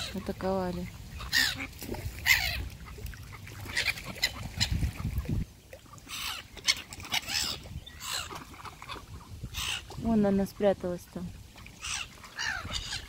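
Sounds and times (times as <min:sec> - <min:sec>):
ducks and gulls harsh calls: 0:00.0 - 0:10.7, 0:11.6 - 0:13.0
water splashing: 0:00.0 - 0:13.0.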